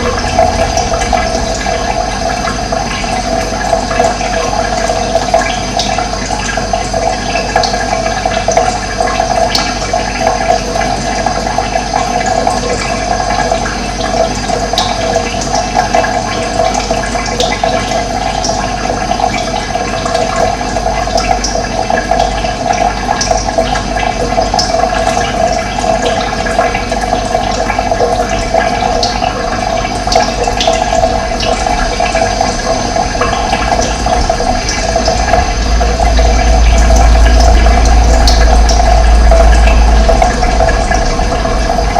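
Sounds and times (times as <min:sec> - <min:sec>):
running water flowing: 0:00.0 - 0:41.9.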